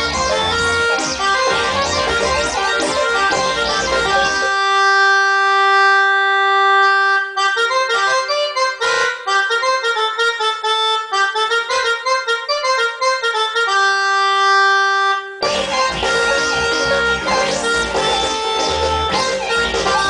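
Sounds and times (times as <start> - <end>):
reedy instrumental melody: 0.0 - 20.0.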